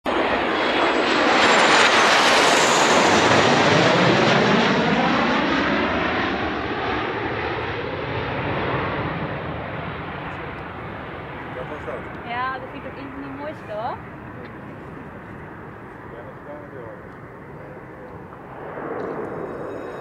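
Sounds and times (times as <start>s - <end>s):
jet fighters flying past: 0.1s - 20.0s.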